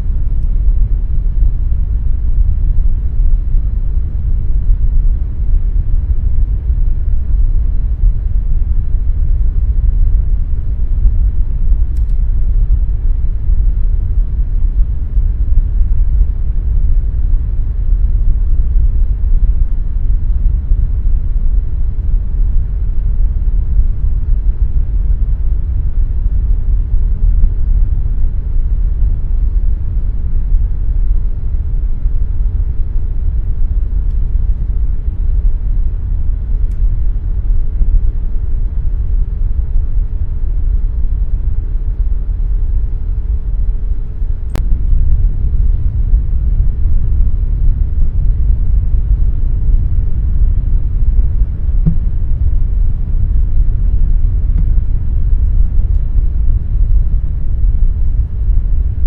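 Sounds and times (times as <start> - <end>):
air conditioner rumble: 0.0 - 59.0
faint steady hum: 0.0 - 59.0.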